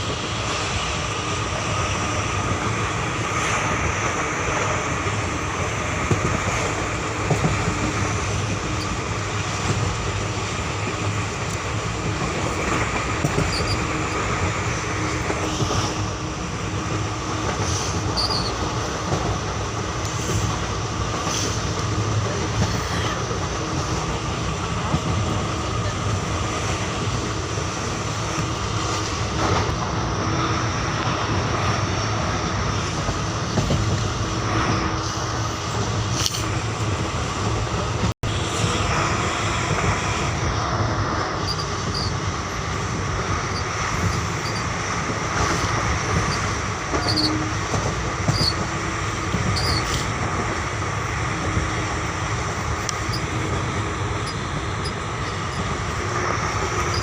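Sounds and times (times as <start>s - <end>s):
train wheels rumbling on rails: 0.0s - 57.0s
wheels clicking over rail joints: 1.8s - 35.1s, 41.1s - 57.0s.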